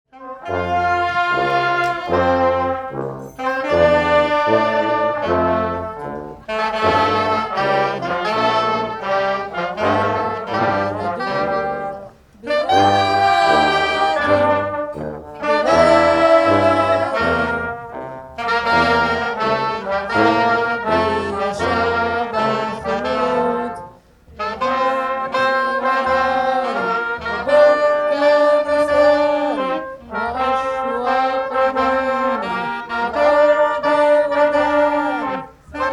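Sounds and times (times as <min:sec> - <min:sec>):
brass band playing: 0:00.1 - 0:35.9.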